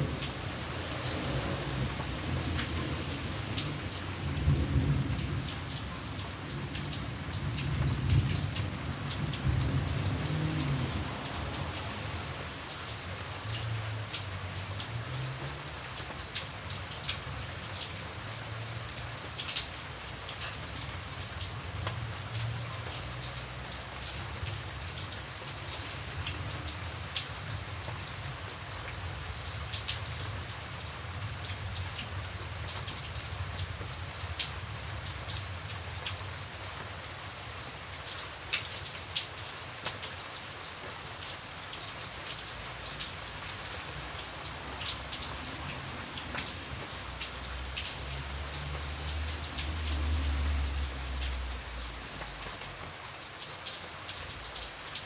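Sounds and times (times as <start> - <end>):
light steady rain: 0.0 - 55.0.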